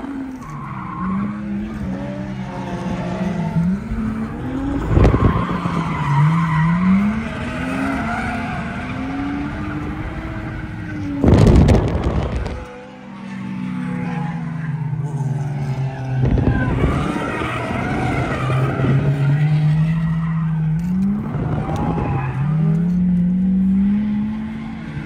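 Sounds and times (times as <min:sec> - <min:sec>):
car engine revving: 0:00.0 - 0:25.0
tyres squealing and skidding: 0:00.0 - 0:25.0.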